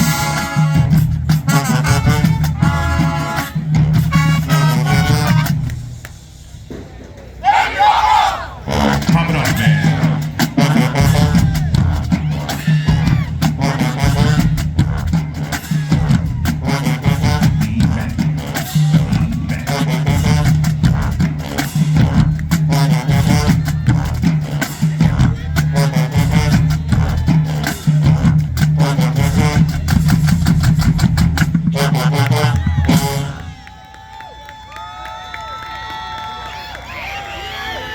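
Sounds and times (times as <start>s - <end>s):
horns playing melody: 0.0s - 6.8s, 7.4s - 33.9s
sousaphones playing bass line: 0.0s - 6.8s, 7.4s - 33.6s
drums pounding: 0.0s - 33.8s.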